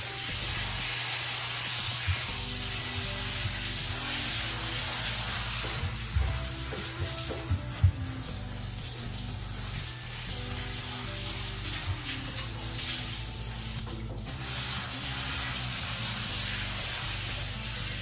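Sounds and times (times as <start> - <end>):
shower spraying water: 0.0 - 18.0.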